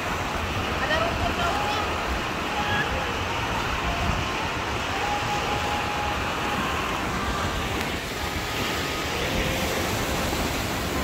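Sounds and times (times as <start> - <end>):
surf rushing: 0.0 - 11.0
wind rumbling on microphone: 0.0 - 11.0.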